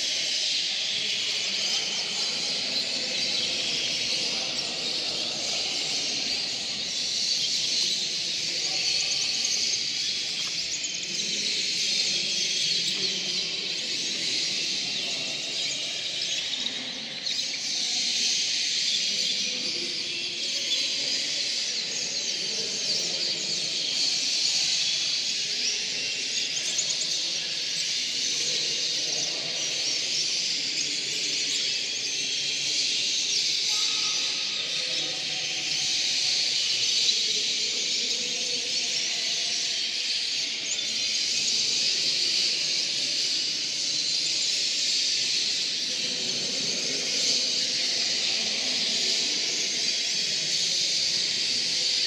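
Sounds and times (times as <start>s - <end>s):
canaries singing: 0.0s - 52.0s.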